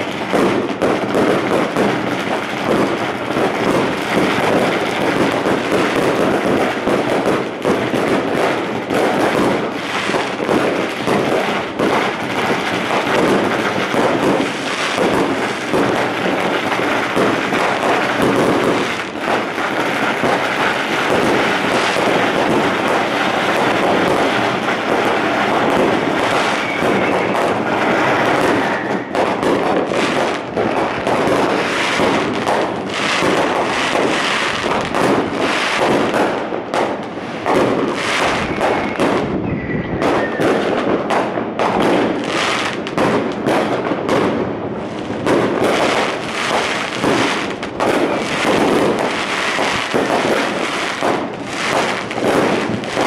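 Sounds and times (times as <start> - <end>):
fireworks cracking and banging: 0.0 - 53.0.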